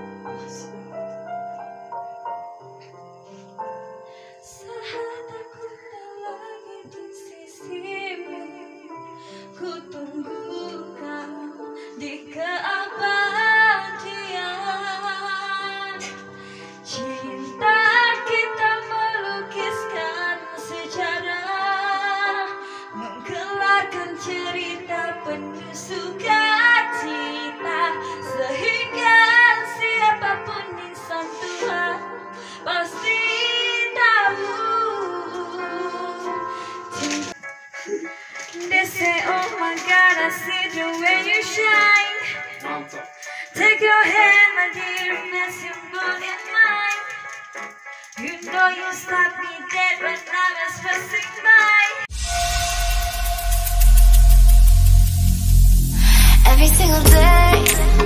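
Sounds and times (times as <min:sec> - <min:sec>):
instrumental backing music: 0:00.0 - 0:58.0
woman singing ballad: 0:04.4 - 0:37.3, 0:38.4 - 0:47.2, 0:48.1 - 0:52.0, 0:55.9 - 0:58.0.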